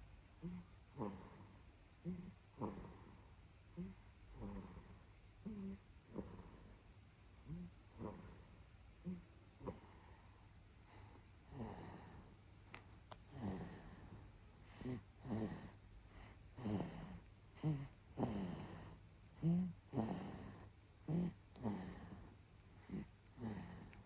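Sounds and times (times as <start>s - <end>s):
person snoring softly: 0.4s - 12.4s, 13.3s - 24.0s.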